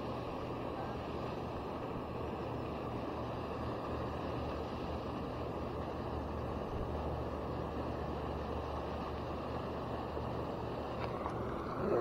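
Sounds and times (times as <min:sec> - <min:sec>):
even rushing noise: 0:00.0 - 0:12.0
motorboat engine droning: 0:00.0 - 0:12.0.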